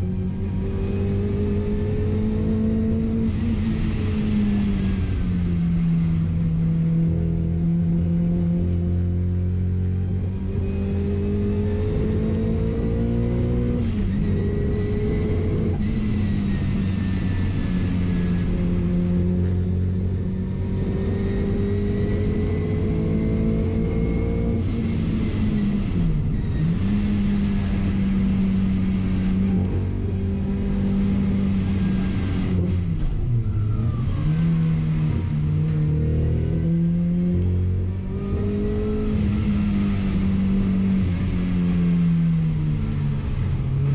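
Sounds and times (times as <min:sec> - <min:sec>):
car engine at high revs: 0:00.0 - 0:43.9.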